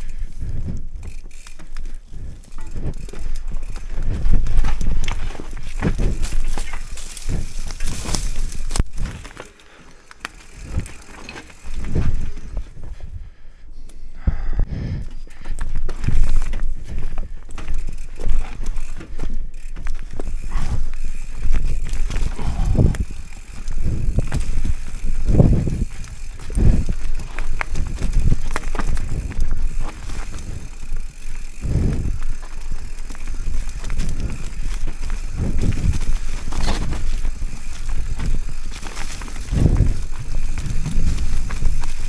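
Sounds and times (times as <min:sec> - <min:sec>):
bike tyres rumbling on ground: 0:00.0 - 0:13.1, 0:14.6 - 0:42.0
bike rattling: 0:00.0 - 0:13.4, 0:14.9 - 0:42.0
heavy thumps of bike: 0:00.5 - 0:09.5, 0:15.5 - 0:42.0.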